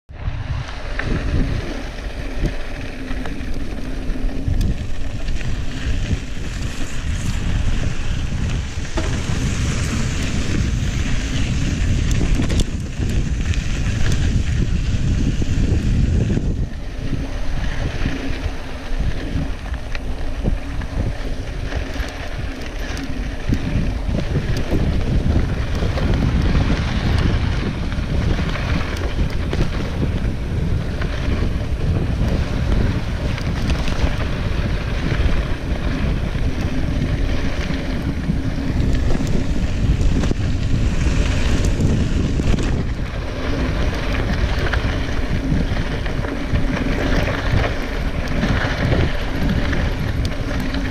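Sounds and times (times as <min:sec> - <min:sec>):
tyres rumbling on dirt trail: 0:00.1 - 0:50.9
wind buffeting microphone: 0:00.1 - 0:50.9
bike rattling and knocking: 0:00.6 - 0:50.9.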